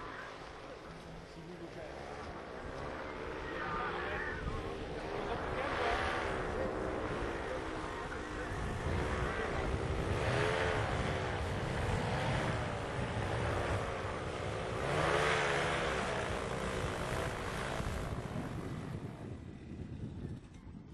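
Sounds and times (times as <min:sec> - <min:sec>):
paramotor engine and propeller: 0:00.0 - 0:20.9.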